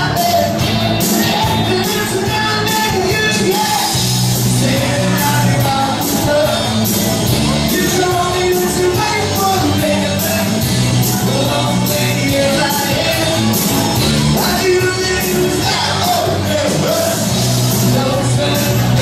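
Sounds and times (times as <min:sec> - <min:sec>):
amplified band music: 0:00.0 - 0:19.0
bass: 0:00.0 - 0:19.0
drum beat: 0:00.0 - 0:19.0
person singing: 0:00.0 - 0:19.0.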